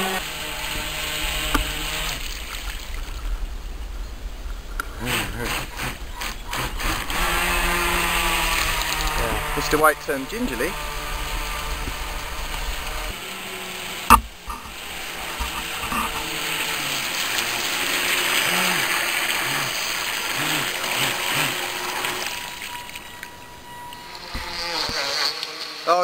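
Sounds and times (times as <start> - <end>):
rc speedboat motor whirring: 0.0 - 2.7, 4.8 - 26.0.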